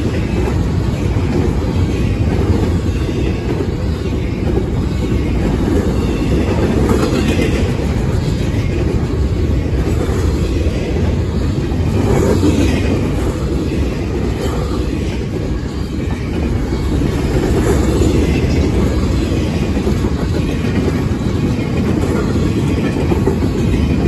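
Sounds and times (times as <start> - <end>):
train cars rumbling on rails: 0.0 - 24.0.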